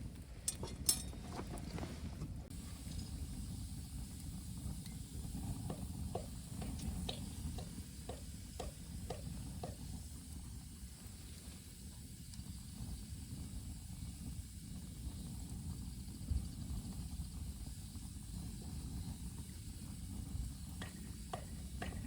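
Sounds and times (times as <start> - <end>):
wind rumble on microphone: 0.0 - 22.0
campfire crackling and popping: 2.6 - 22.0.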